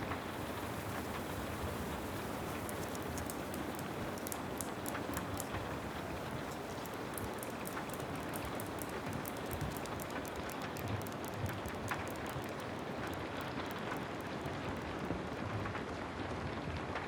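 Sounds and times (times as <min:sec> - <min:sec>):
steady rain falling: 0:00.0 - 0:15.7.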